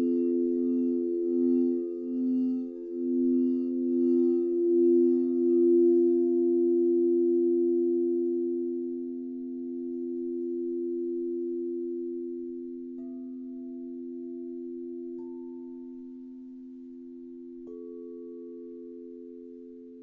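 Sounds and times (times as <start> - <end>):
singing bowls ringing: 0.0 - 20.0.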